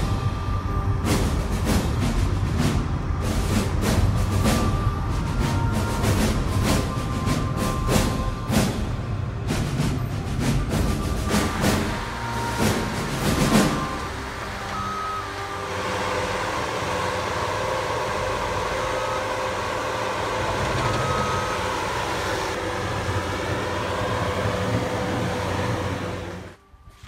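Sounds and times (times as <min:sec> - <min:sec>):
loader engine running: 0:00.0 - 0:26.6.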